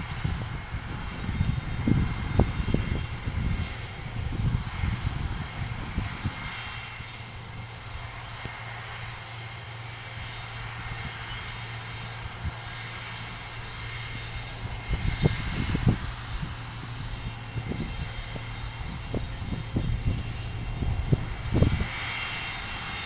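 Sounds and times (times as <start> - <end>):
distant sprayer engine drone: 0.0 - 23.0
wind buffeting microphone: 0.0 - 23.0.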